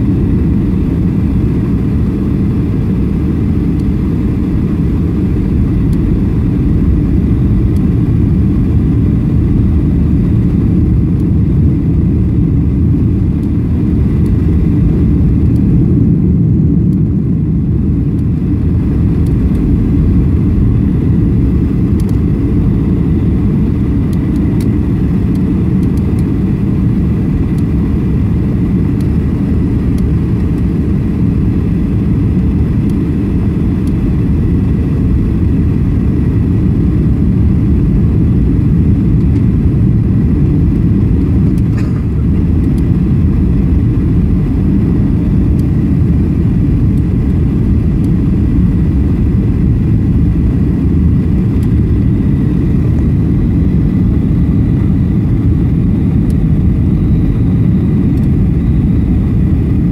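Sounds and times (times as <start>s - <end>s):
airliner cabin engine rumble: 0.0s - 59.9s
faint steady whine: 0.0s - 59.9s.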